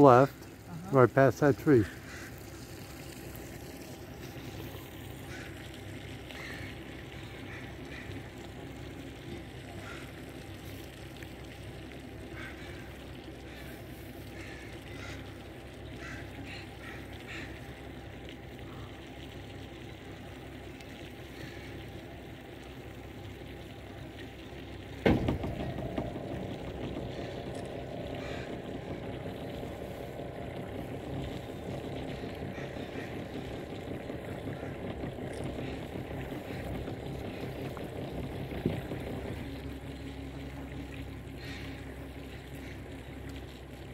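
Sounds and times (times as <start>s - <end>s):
gulls calling: 0.0s - 11.1s, 11.7s - 43.9s
boat engine humming: 0.0s - 43.9s.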